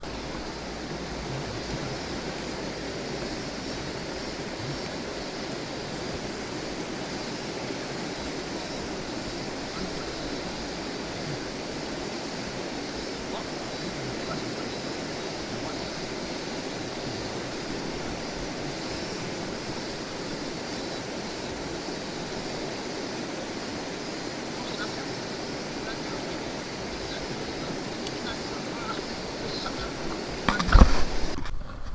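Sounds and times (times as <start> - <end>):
steady rushing noise: 0.0 - 31.9.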